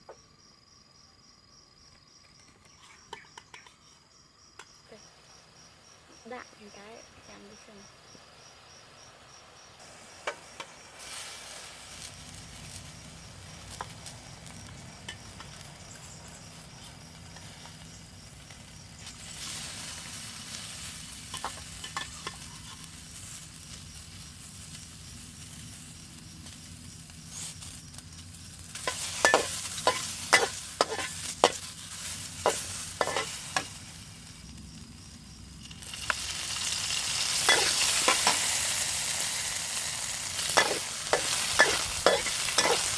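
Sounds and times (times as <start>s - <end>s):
food sizzling in a pan: 5.1s - 42.9s.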